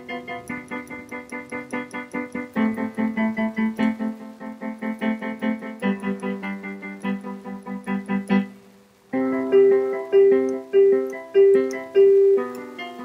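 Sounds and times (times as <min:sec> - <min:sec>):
electric keyboard piano notes: 0:00.0 - 0:13.0.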